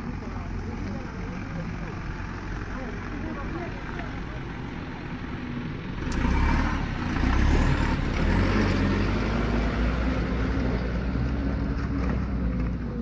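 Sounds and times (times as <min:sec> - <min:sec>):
heavy vehicle engine droning: 0:00.0 - 0:13.0.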